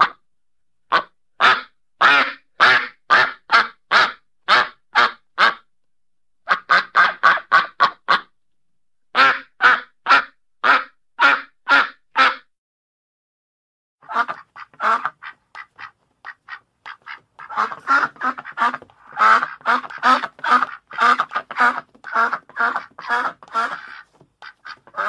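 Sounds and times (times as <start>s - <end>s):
duck quacking: 0.0s - 0.2s, 0.9s - 5.7s, 6.5s - 8.3s, 9.1s - 12.5s, 14.0s - 25.0s.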